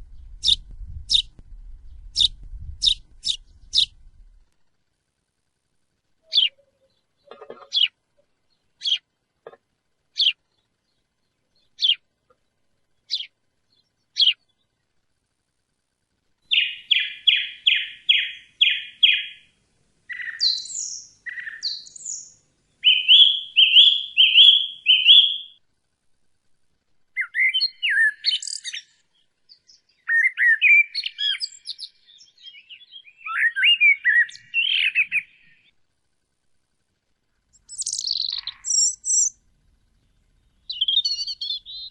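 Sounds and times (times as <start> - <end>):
songbird singing: 0.0 - 4.4, 6.2 - 15.0, 16.4 - 25.6, 27.1 - 35.8, 37.4 - 41.9.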